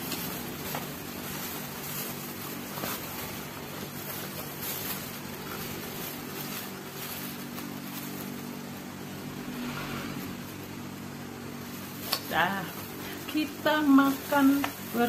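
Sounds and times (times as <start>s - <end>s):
faint rustling and handling noises: 0.0s - 10.8s, 11.4s - 15.0s
motor droning hum: 0.0s - 15.0s.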